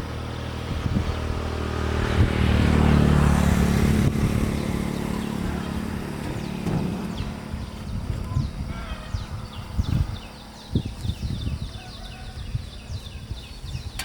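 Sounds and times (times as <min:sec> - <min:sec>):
motor engine running: 0:00.0 - 0:11.7.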